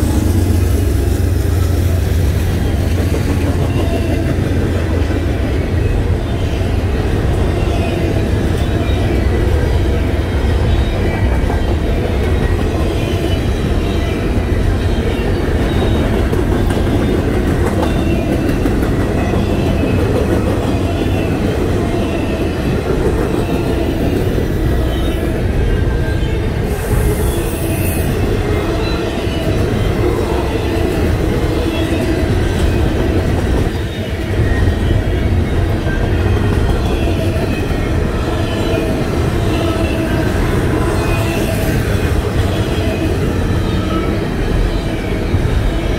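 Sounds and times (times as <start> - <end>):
diesel locomotive passing: 0.0 - 45.9
train wheels rumbling on rails: 0.0 - 45.9.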